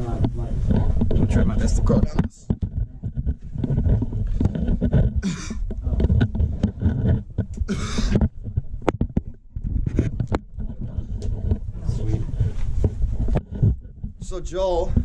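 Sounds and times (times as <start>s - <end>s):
clothing rubbing microphone: 0.0s - 15.0s
scraping and knocking on rock: 0.0s - 15.0s.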